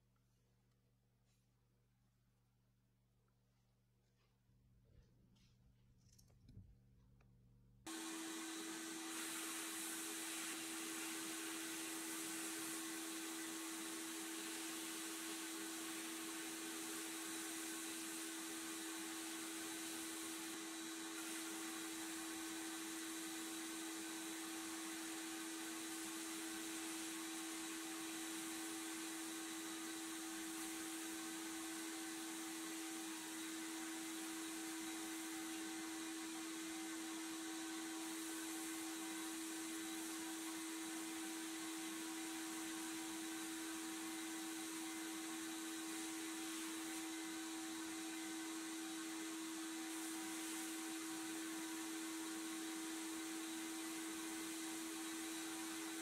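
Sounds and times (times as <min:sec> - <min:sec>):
sandblast gun hissing: 0:07.9 - 0:56.0.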